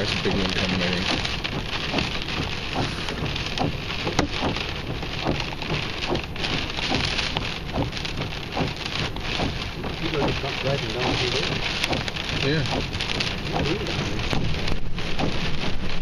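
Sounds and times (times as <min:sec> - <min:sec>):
rain hiss: 0:00.0 - 0:16.0
raindrop hits: 0:00.0 - 0:16.0.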